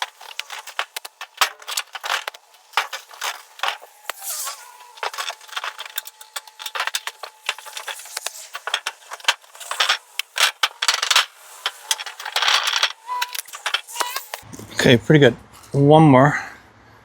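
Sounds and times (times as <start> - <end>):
cloth rubbing on metal panel: 0.0 - 14.4.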